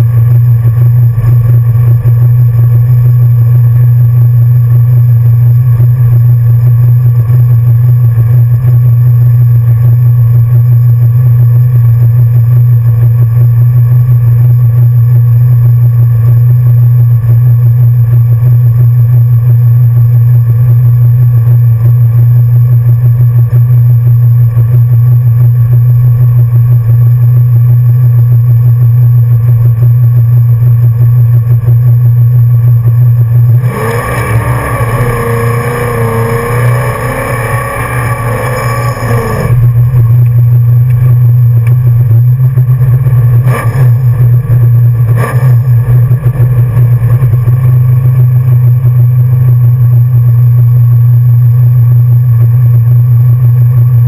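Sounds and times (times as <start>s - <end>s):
car engine idling loudly: 0.0s - 54.0s.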